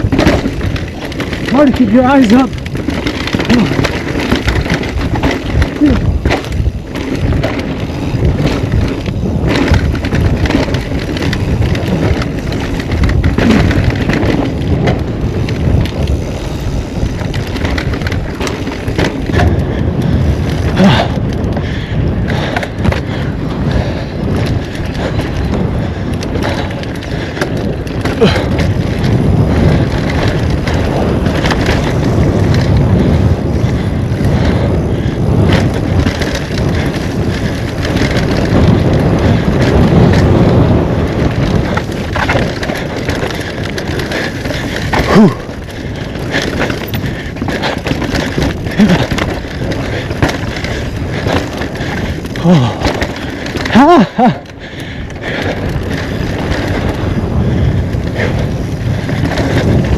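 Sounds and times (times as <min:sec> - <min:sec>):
bike rattling: 0:00.0 - 0:59.9
bike tyres rumbling over dirt: 0:00.0 - 0:59.9
wind buffeting microphone: 0:00.0 - 0:59.9.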